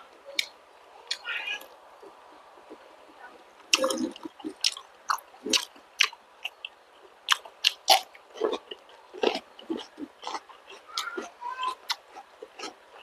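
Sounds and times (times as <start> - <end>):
close chewing and mouth smacks: 2.0 - 13.0.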